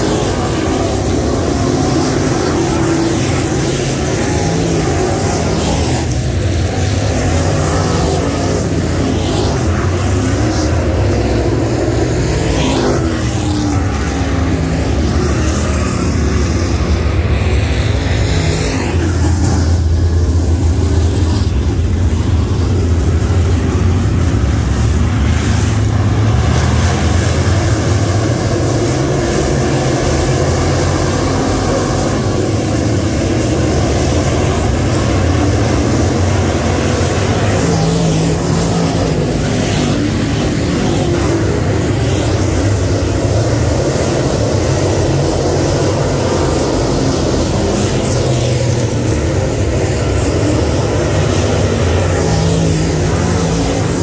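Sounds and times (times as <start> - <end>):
race car engines droning: 0.0 - 54.0.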